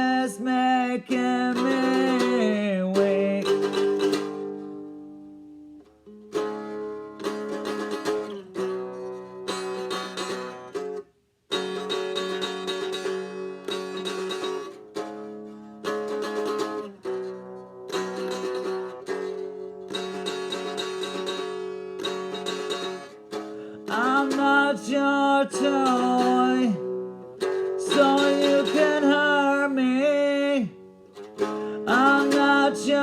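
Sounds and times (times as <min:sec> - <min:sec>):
guitar strumming chords: 0:00.0 - 0:33.0.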